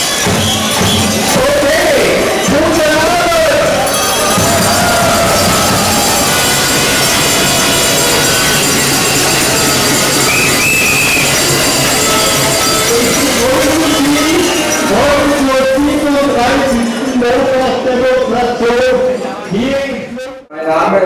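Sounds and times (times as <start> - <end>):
short high tones: 0.0 - 17.2
crowd of protesters din: 0.0 - 21.0.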